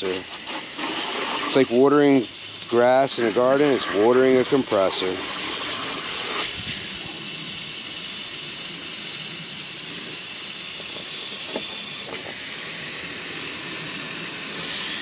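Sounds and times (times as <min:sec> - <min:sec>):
hose water spraying: 0:00.0 - 0:15.0.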